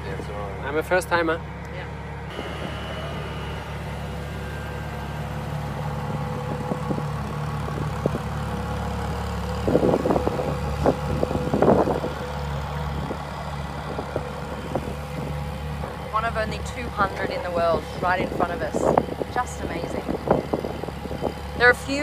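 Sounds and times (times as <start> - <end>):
car engine idling: 0.0 - 22.0
sharp engine bursts: 2.2 - 22.0.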